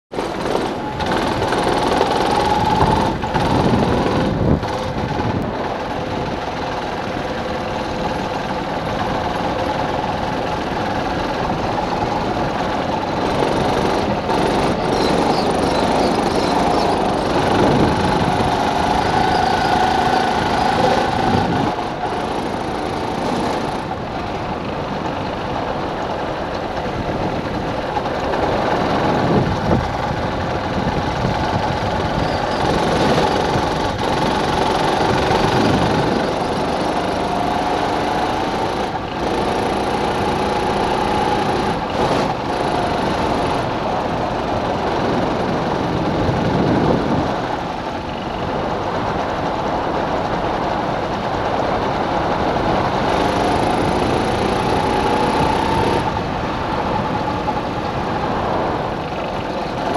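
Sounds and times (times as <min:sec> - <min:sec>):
kart engine revving: 0:00.1 - 0:59.9.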